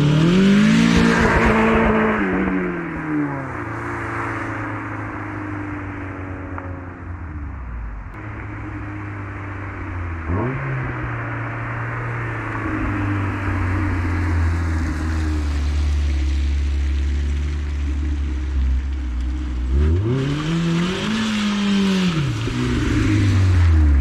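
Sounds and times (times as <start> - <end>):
car engine drive-by: 0.0 - 24.0.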